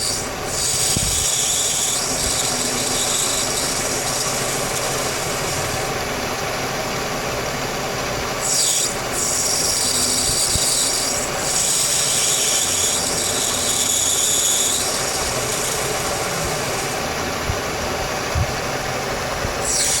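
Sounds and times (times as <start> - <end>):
milling machine running: 0.0 - 20.0.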